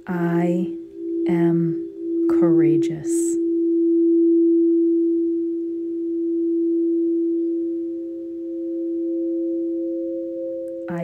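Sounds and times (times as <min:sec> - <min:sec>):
higher singing bowl tone: 0:00.0 - 0:11.0
singing bowl low tone: 0:00.0 - 0:11.0.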